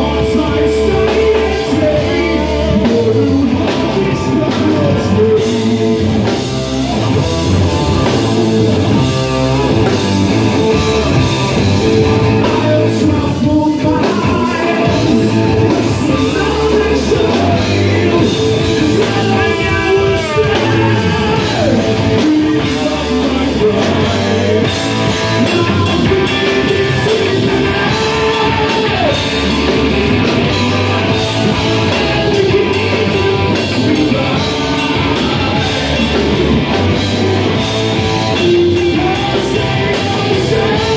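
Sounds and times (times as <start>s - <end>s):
drum kit: 0.0s - 40.9s
electric bass: 0.0s - 40.9s
electric guitar: 0.0s - 40.9s
person singing: 0.0s - 40.9s.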